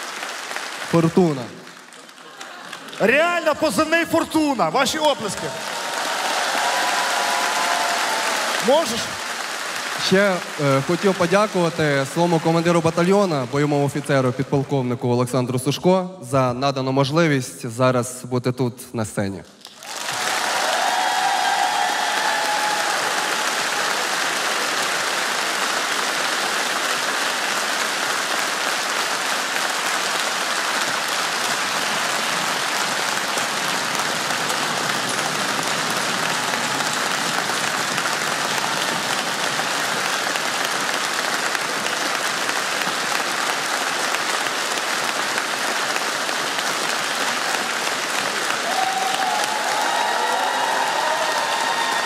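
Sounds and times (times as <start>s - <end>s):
audience applauding: 0.0s - 15.0s, 19.6s - 52.0s.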